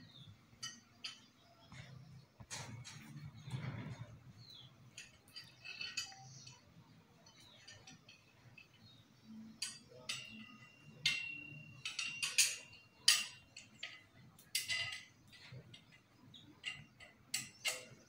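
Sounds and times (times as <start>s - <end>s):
metal hardware clinking on grille: 0.6s - 18.0s.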